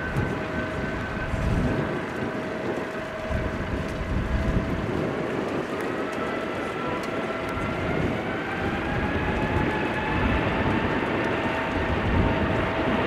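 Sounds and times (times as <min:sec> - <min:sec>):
jet engine whine: 0:00.0 - 0:13.0
wind buffeting microphone: 0:00.0 - 0:13.0.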